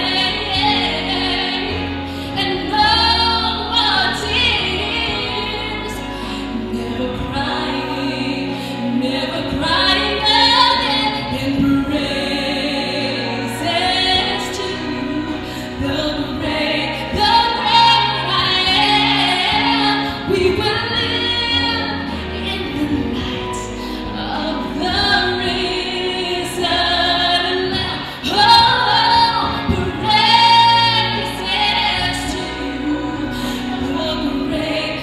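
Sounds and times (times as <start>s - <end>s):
woman singing into microphone: 0.0s - 35.0s.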